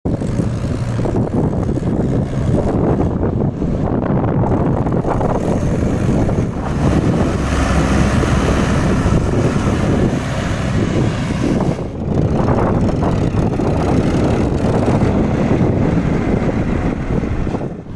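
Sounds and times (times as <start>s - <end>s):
diesel tractor engines under load: 0.1s - 17.9s
wind buffeting microphone: 0.1s - 17.9s.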